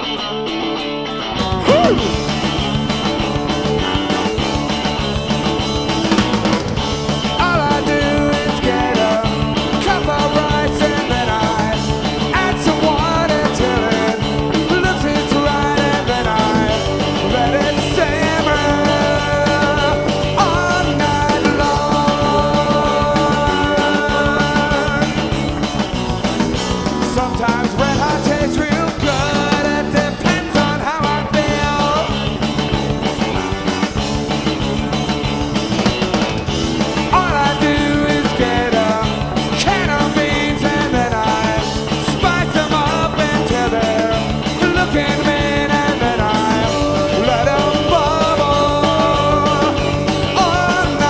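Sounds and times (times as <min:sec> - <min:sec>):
guitar lead-in: 0:00.0 - 0:51.0
live rock band playing: 0:00.0 - 0:51.0.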